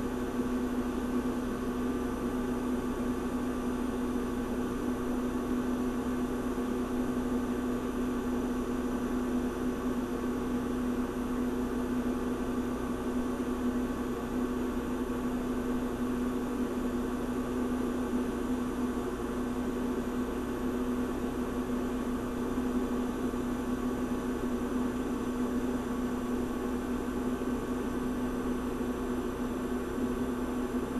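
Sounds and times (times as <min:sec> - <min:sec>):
refrigerator compressor humming: 0:00.0 - 0:30.9.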